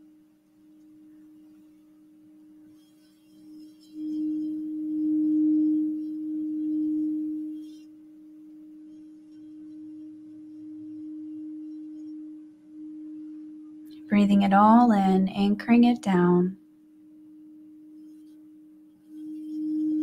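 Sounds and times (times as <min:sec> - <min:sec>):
singing bowl ringing tone: 0:00.0 - 0:20.0.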